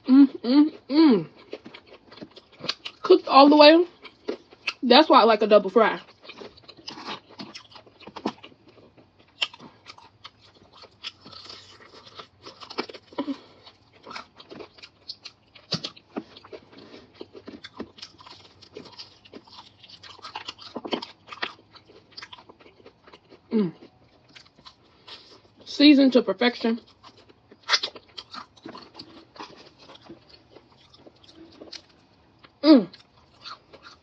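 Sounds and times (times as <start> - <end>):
crunching bites and chewing: 0.8 - 3.1, 3.9 - 4.8, 6.0 - 25.7, 26.8 - 34.0
crispy crust crackling: 1.3 - 34.0.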